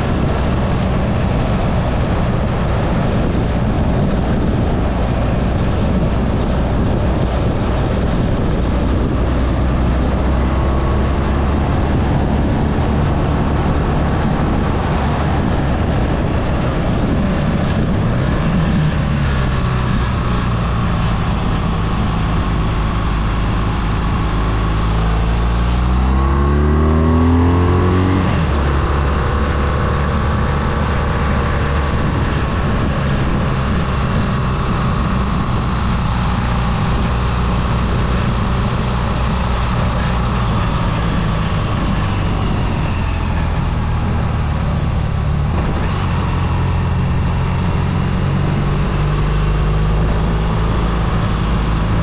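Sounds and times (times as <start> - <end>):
road and wind noise: 0.0 - 52.0
vehicle engine accelerating: 0.0 - 52.0.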